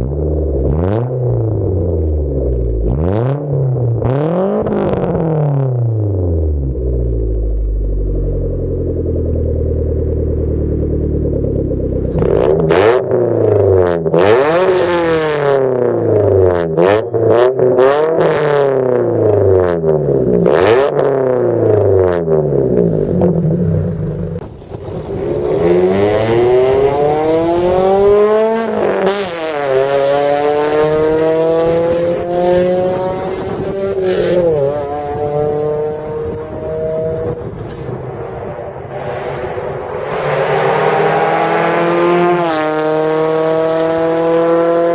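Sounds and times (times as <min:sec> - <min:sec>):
exhaust cracks: 0:00.0 - 0:44.3
car engine accelerating: 0:00.0 - 0:44.9
car engine revving: 0:00.0 - 0:44.9.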